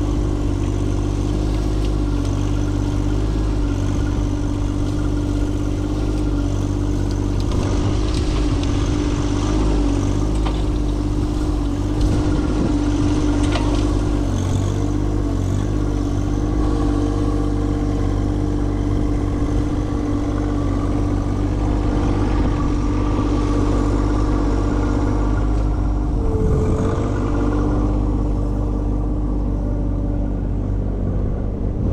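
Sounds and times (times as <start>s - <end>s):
tractor engine running: 0.0s - 31.9s.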